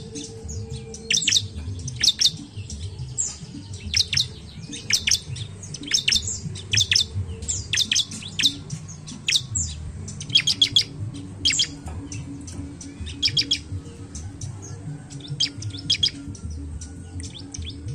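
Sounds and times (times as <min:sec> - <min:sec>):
bird chirping: 0:00.0 - 0:17.9.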